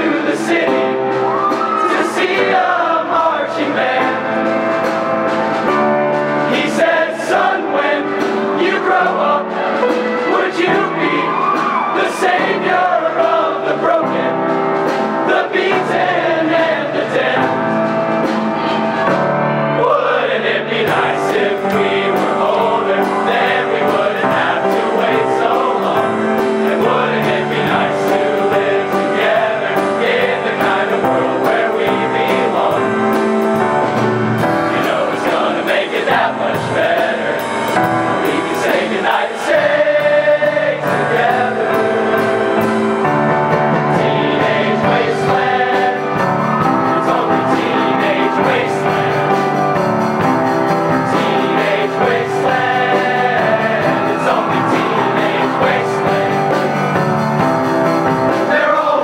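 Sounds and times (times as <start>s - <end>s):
male choir singing in harmony: 0.0s - 59.0s.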